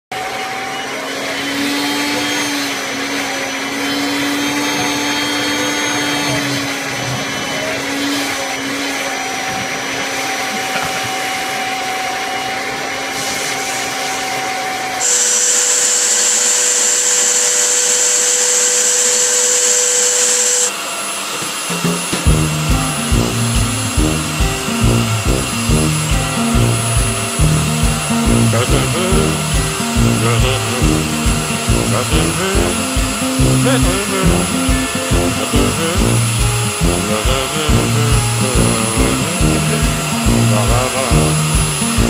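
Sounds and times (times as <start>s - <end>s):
vacuum cleaner humming whine: 0.0s - 42.0s.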